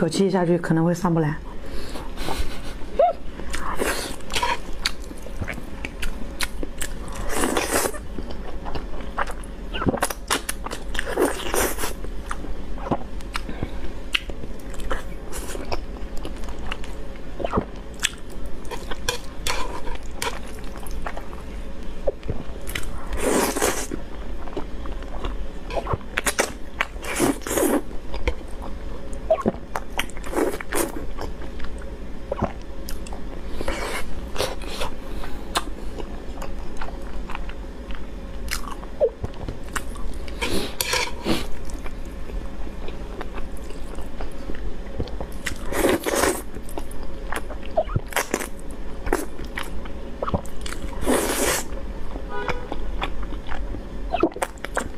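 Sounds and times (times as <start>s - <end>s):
person chewing: 3.4s - 21.4s, 22.0s - 42.0s, 42.8s - 51.7s, 52.4s - 54.9s.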